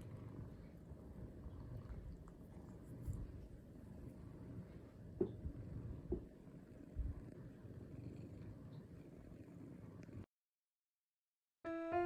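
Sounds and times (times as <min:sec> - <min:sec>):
cat purring: 0:00.0 - 0:10.3.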